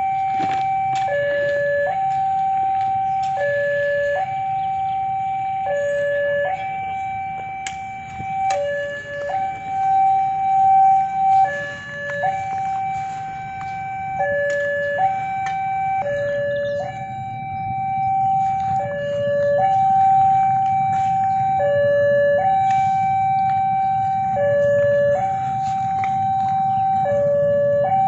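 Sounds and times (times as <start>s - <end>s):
level crossing two-tone alarm: 0.0s - 28.0s.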